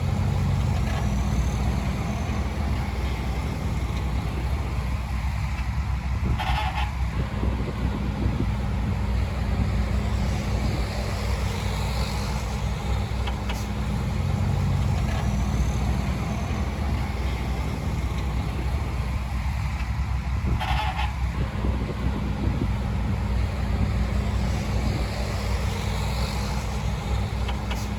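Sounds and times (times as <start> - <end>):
heavy machinery diesel engine droning: 0.0 - 27.9.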